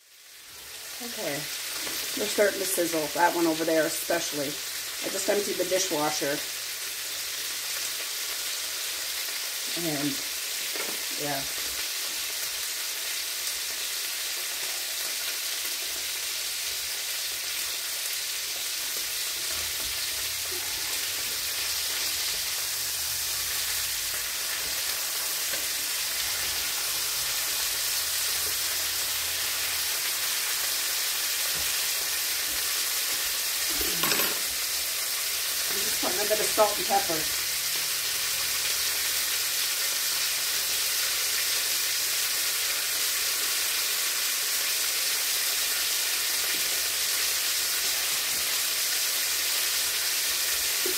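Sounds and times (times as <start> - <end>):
meat sizzling in pans: 0.0 - 50.9.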